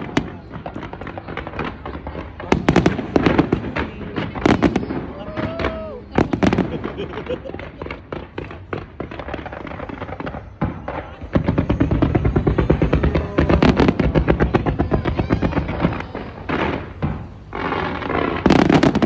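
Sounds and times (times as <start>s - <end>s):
fireworks crackling bangs: 0.0s - 19.0s.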